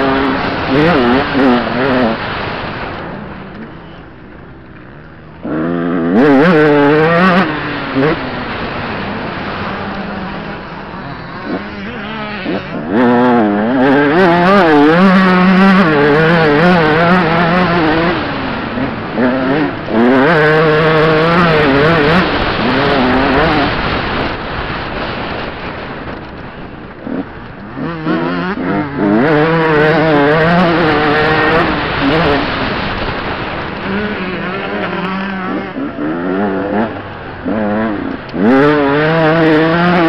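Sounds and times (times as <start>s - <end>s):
dirt bike engine revving: 0.0s - 4.0s, 4.8s - 40.0s.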